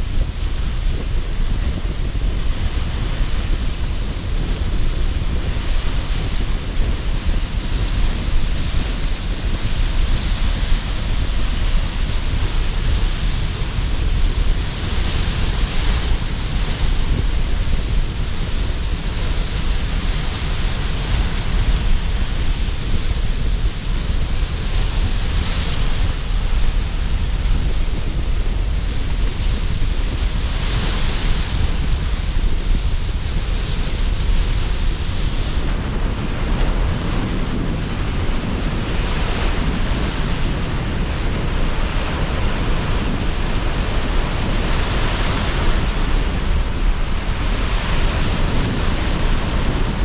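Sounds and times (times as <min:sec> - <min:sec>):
sea surf breaking: 0:00.0 - 0:50.0
strong gusting wind: 0:00.0 - 0:50.0.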